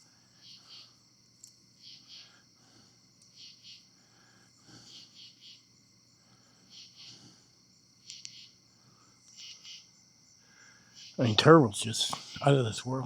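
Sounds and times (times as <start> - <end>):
insect high-pitched trill: 0.0 - 13.0
short raspy insect calls: 0.0 - 13.0.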